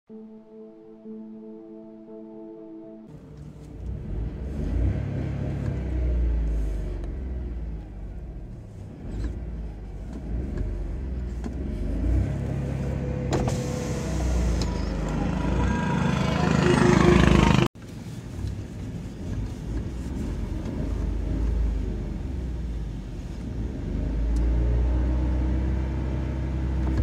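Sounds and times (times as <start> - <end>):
car engine revving: 3.1 - 27.0.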